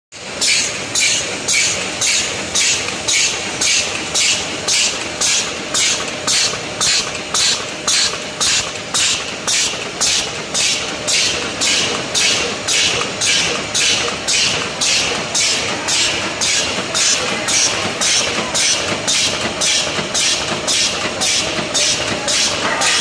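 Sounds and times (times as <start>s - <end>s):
machine hissing bursts: 0.2s - 23.0s
mechanical running noise: 0.2s - 23.0s.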